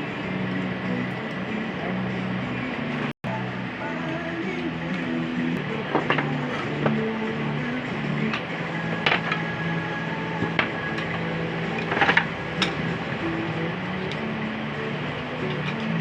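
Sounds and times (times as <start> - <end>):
low background music: 0.0 - 16.0.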